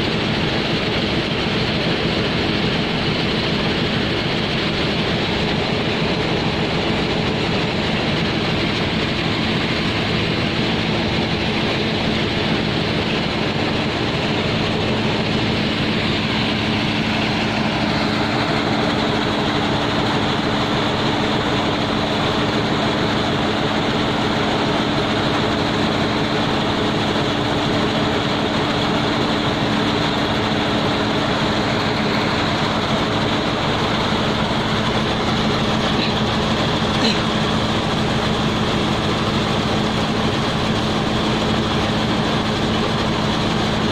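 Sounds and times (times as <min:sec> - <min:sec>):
diesel machinery droning: 0:00.0 - 0:43.9
rushing noise: 0:00.0 - 0:43.9.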